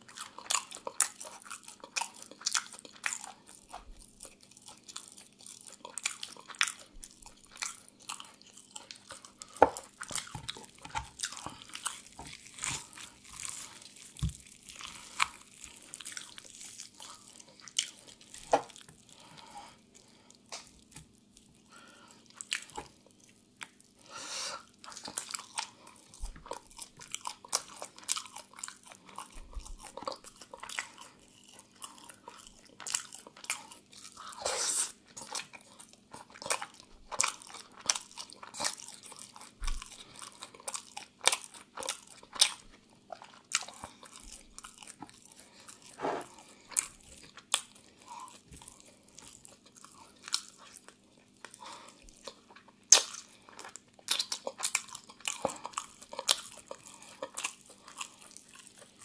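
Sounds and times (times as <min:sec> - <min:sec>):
chewing crispy chicken: 0:00.0 - 0:59.0.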